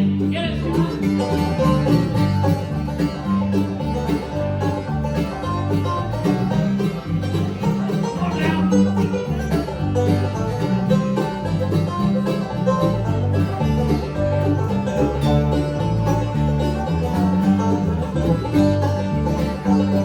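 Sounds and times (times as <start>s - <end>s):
banjo picking: 0.0s - 20.0s
guitar: 0.0s - 20.0s
steady bass line: 0.0s - 20.0s.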